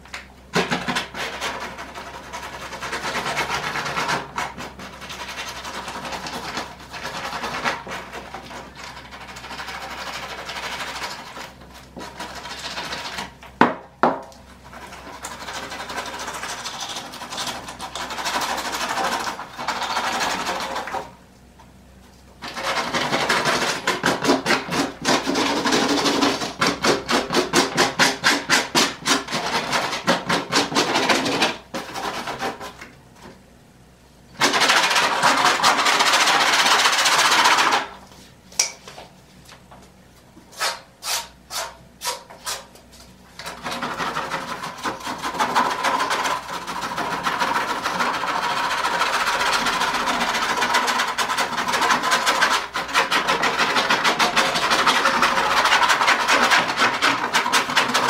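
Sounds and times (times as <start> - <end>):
hand tool scraping foam: 0.6 - 13.4, 14.6 - 21.1, 22.4 - 32.8, 34.4 - 38.0, 40.5 - 42.8, 43.4 - 58.0.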